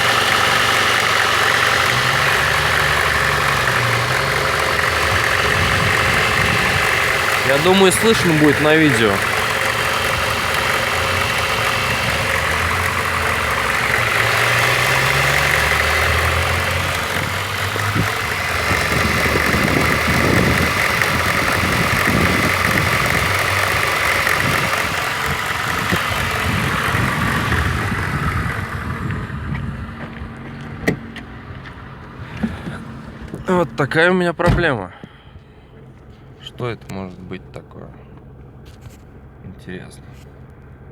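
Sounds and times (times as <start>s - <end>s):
car engine idling with crackling: 0.0s - 40.9s.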